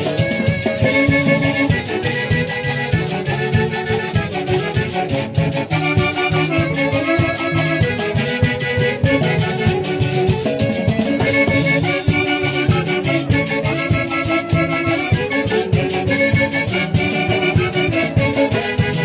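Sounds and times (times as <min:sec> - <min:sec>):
folk-dance music: 0:00.0 - 0:19.0.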